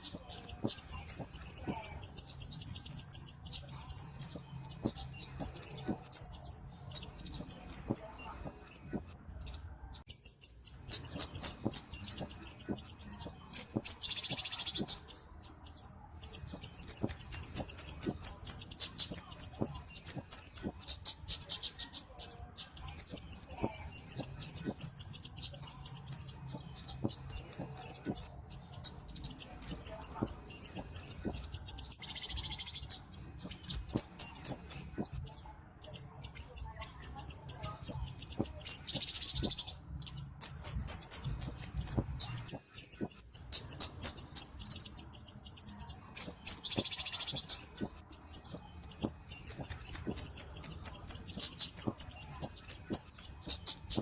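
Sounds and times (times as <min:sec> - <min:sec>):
bird high ticking chips: 0:00.0 - 0:54.0.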